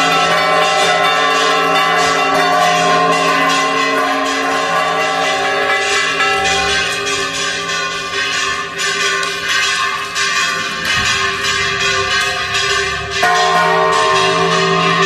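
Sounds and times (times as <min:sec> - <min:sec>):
bells ringing in a peal: 0:00.0 - 0:15.0.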